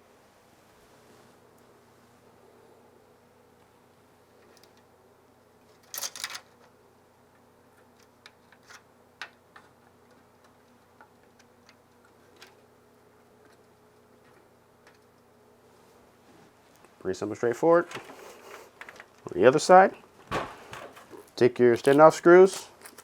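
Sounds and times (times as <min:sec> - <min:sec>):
faint room hum: 0:00.0 - 0:23.0.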